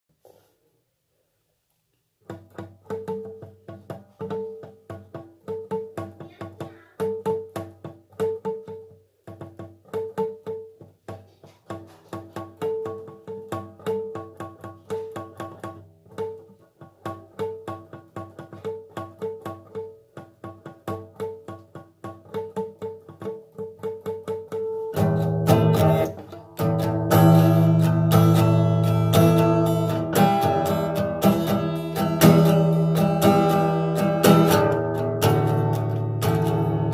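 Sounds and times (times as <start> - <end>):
acoustic guitar playing: 2.2 - 36.9.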